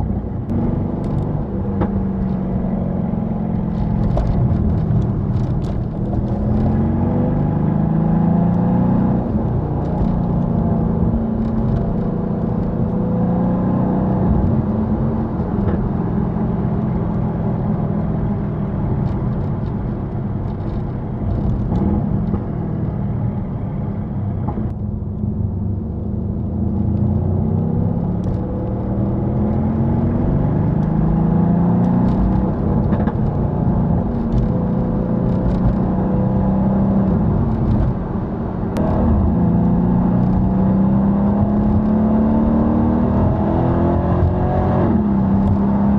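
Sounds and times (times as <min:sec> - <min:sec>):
car engine accelerating: 0:00.0 - 0:45.9
road noise: 0:00.0 - 0:45.9.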